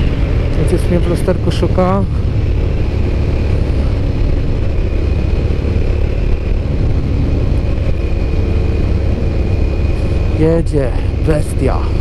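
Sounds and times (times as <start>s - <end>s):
faint high whine: 0.0s - 12.0s
motorcycle engine cruising: 0.0s - 12.0s
wind rushing over microphone: 0.0s - 12.0s.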